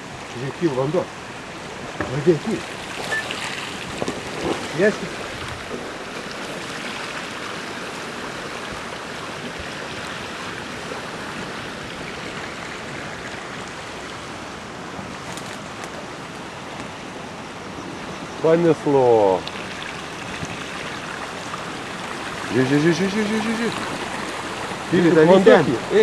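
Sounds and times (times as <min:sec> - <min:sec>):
river rushing with ice floes: 0:00.0 - 0:26.0.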